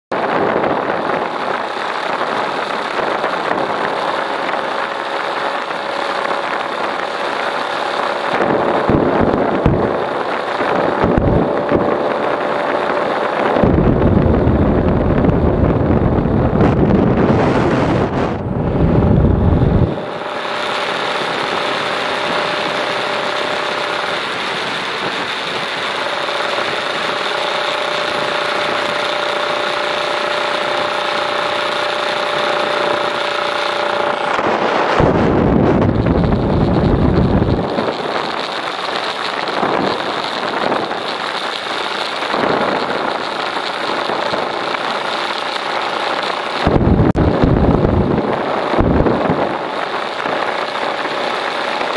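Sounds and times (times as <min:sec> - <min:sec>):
motorcycle engine cruising: 0:00.1 - 0:51.9
wind buffeting microphone: 0:00.1 - 0:51.9.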